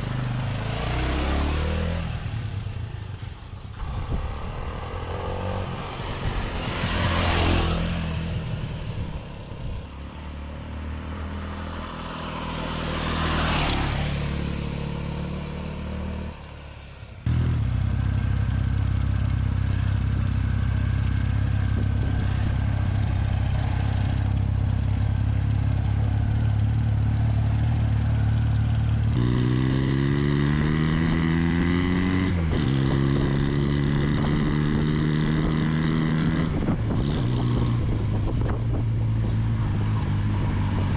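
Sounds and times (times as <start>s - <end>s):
motorcycle engine running and revving: 0.0s - 16.6s, 17.2s - 40.9s.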